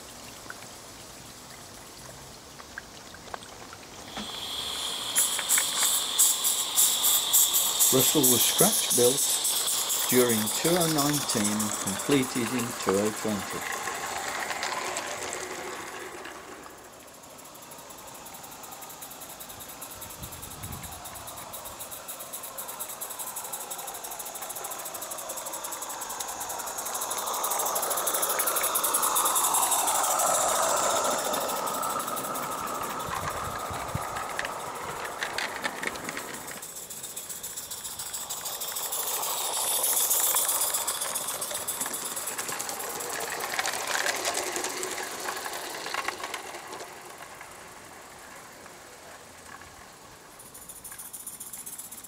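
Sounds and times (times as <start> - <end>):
small wheels on track: 0.0 - 52.0
wheels clicking over rail joints: 0.0 - 52.0
steam locomotive exhaust beats: 4.0 - 52.0.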